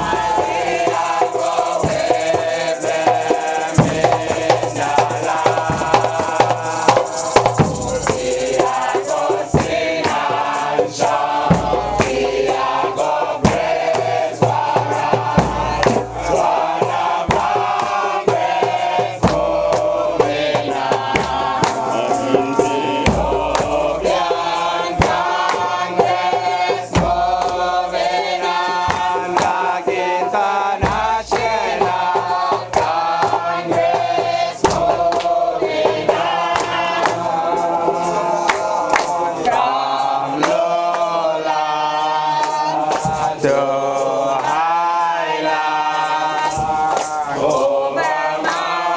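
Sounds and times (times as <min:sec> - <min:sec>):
congregation singing a chant: 0:00.0 - 0:48.9
hand percussion: 0:00.0 - 0:48.9.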